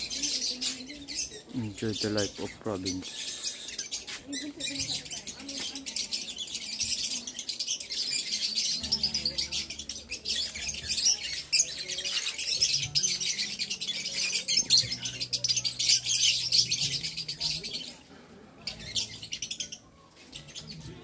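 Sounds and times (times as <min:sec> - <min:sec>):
lovebirds chirping: 0:00.0 - 0:21.0.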